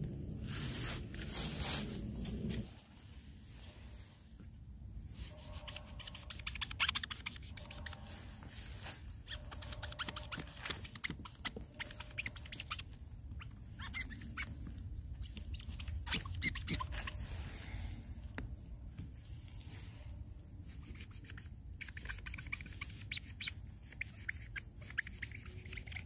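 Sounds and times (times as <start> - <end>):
crackles scrapes and squeaks: 0.6 - 17.6, 18.2 - 26.0.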